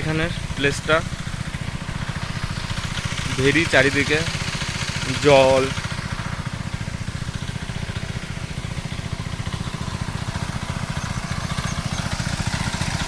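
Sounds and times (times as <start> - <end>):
pump engine running: 0.0 - 13.0.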